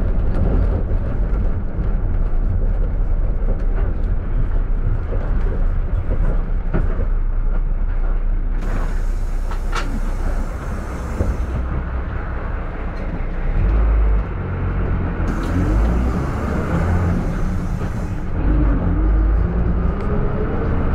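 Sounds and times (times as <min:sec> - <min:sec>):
road traffic rumbling: 0:00.0 - 0:20.9.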